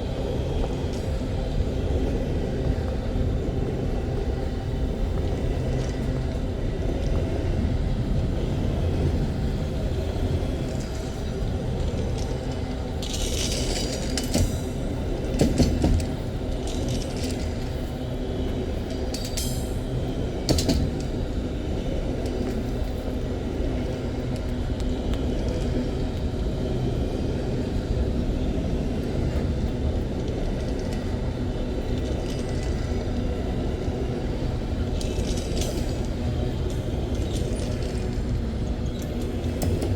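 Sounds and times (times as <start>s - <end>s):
train wagons rumbling on rails: 0.0s - 39.9s.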